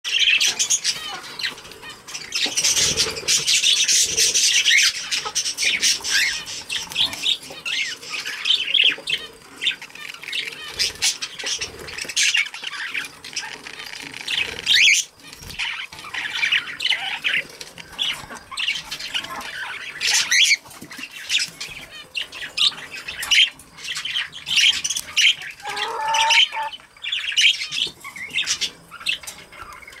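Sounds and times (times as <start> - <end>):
budgerigars chirping and squawking: 0.1 - 30.0.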